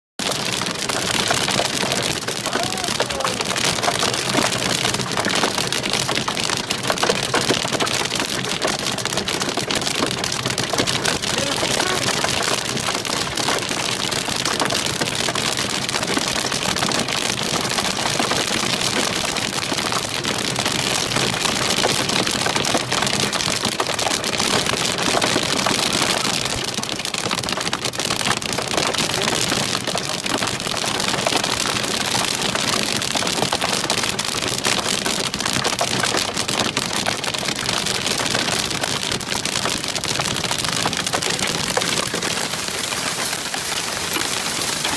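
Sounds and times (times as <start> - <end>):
hail pelting car roof: 0.2 - 44.9.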